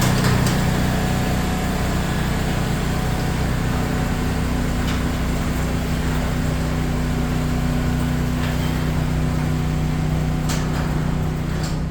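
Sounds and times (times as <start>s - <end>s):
garage door opener motor hum: 0.0s - 11.9s.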